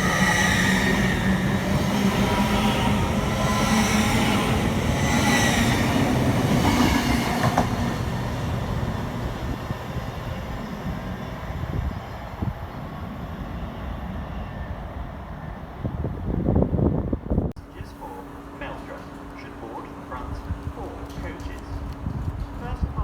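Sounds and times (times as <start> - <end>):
train wheels on rails: 0.0 - 14.9, 17.7 - 23.0.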